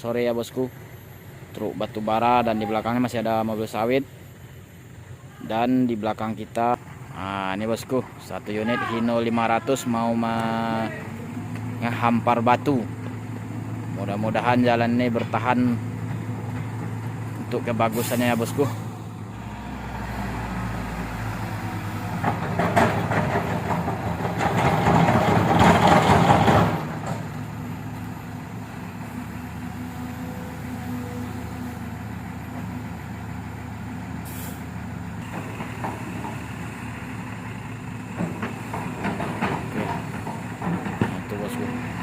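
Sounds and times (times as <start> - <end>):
diesel truck engine: 0.0 - 42.0.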